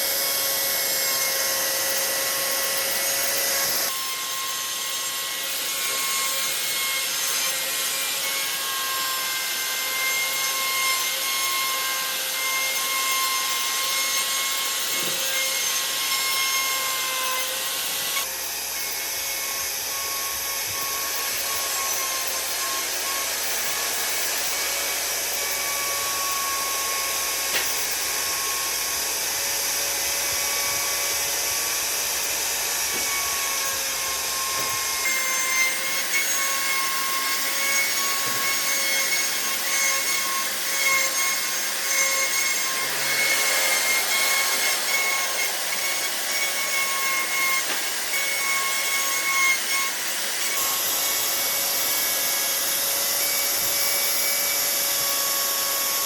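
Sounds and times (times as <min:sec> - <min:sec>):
electric power tool whining: 0:00.0 - 0:56.0.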